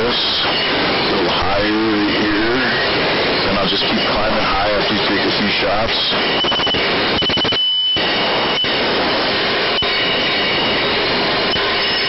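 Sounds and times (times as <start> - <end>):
faint high whine: 0.0 - 12.0
jet aircraft rushing: 0.0 - 12.0.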